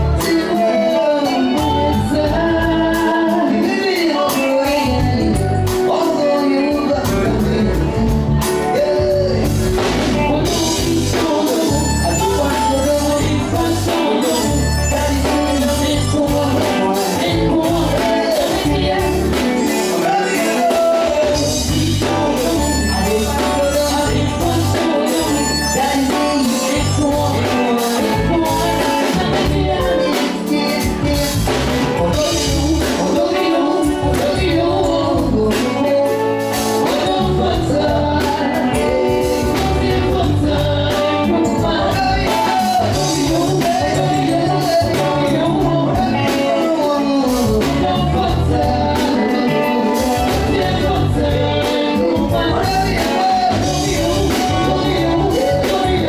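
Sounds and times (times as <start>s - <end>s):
band music with singer: 0.0s - 56.0s
drums and bass beat: 0.0s - 56.0s.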